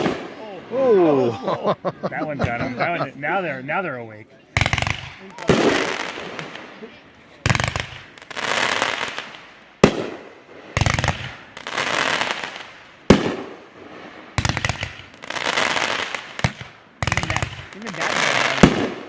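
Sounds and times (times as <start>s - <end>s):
fireworks bangs: 0.0s - 1.5s, 4.4s - 19.0s.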